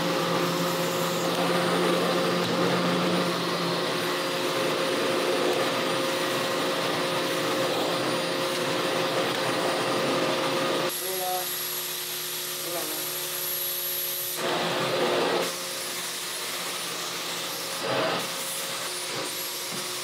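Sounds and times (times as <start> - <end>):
vacuum cleaner on fabric mat: 0.0 - 20.0.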